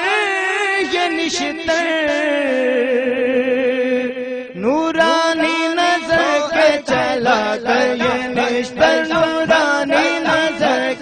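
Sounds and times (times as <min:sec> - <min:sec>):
person chanting devotional song: 0:00.0 - 0:11.0.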